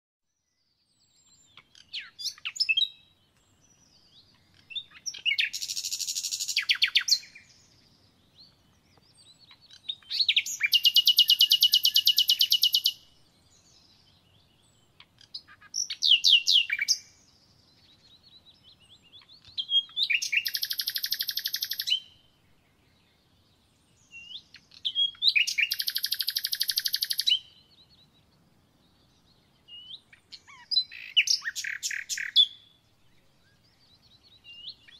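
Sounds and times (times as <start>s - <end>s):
songbird singing with buzzy trill: 0.3s - 34.9s.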